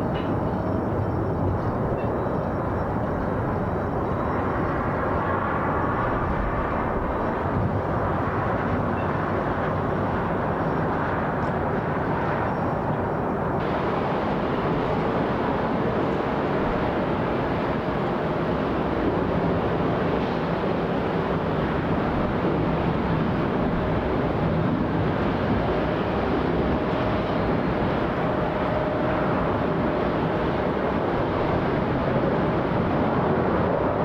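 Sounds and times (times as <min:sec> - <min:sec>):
faint jet engine whine: 0:00.0 - 0:34.0.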